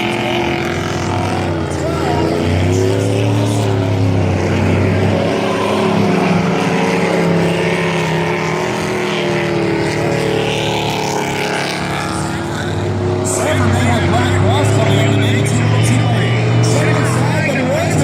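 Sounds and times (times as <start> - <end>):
race truck engines revving: 0.0 - 18.0.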